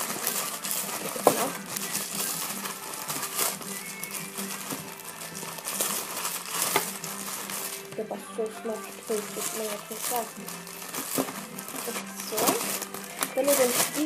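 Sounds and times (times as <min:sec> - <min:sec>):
background music: 0:00.0 - 0:14.0
plastic packaging crinkling: 0:00.0 - 0:14.0
sharp plastic crackle: 0:00.0 - 0:14.0.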